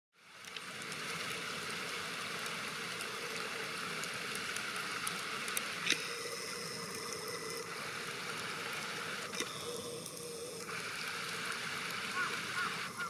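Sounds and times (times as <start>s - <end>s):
river water flowing: 0.2s - 13.0s.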